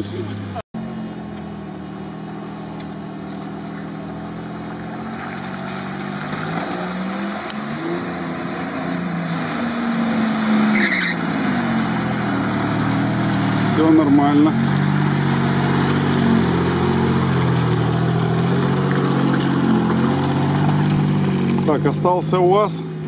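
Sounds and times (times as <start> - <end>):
suv engine revving: 0.0 - 23.0.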